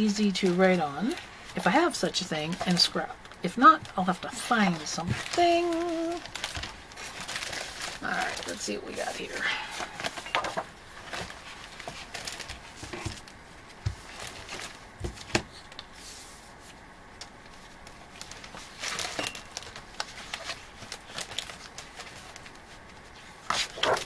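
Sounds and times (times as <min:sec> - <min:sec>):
paper rustling: 0:03.6 - 0:16.8, 0:17.5 - 0:24.0.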